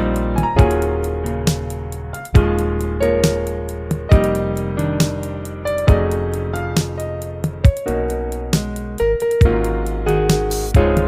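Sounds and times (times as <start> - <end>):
kick drum and hi-hat beat: 0.0 - 11.0
piano and keyboard music: 0.0 - 11.0.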